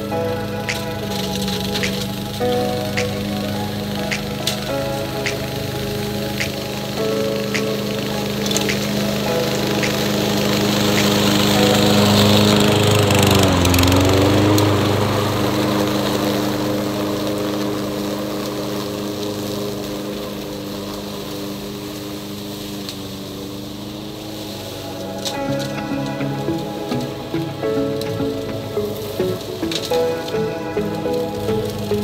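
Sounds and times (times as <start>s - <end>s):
push mower mulching leaves: 0.0s - 32.0s.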